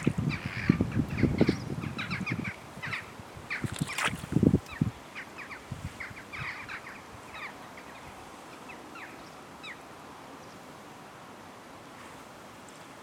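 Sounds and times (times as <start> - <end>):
birds calling: 0.0 - 10.6.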